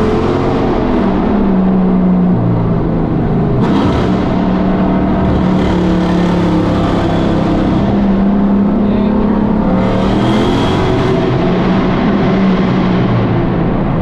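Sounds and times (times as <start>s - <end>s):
car engine running steadily: 0.0s - 14.0s
vehicles rushing past: 0.0s - 14.0s.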